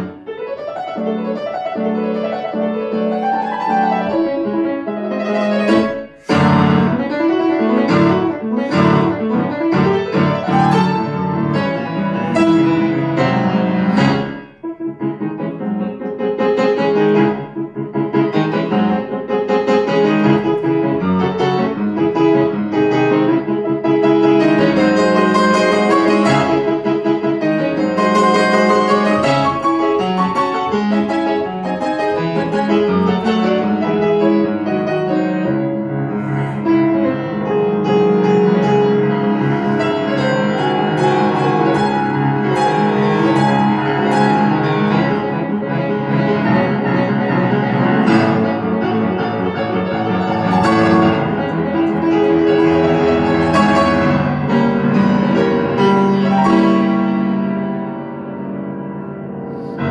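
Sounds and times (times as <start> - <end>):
grand piano classical passage: 0.0 - 59.9.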